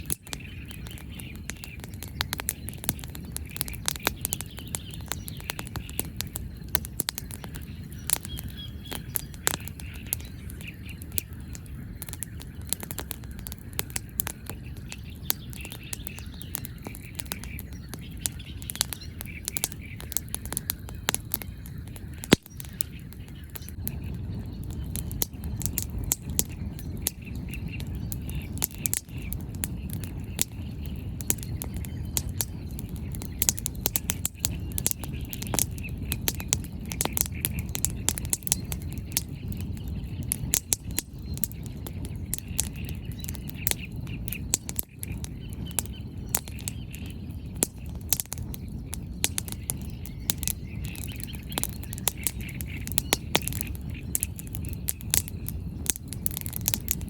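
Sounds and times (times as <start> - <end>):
fire low rumble: 0.0 - 57.0
firewood crackling and popping: 0.0 - 57.0.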